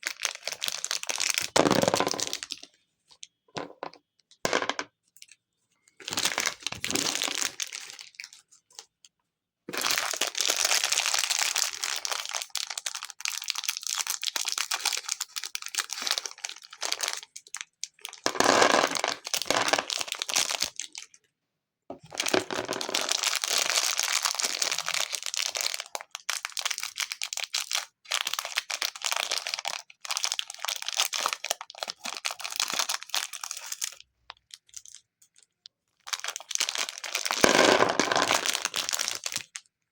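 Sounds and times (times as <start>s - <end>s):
plastic packaging crinkling: 0.0s - 2.7s, 6.0s - 8.4s, 9.8s - 21.1s, 22.1s - 35.4s, 36.0s - 39.6s.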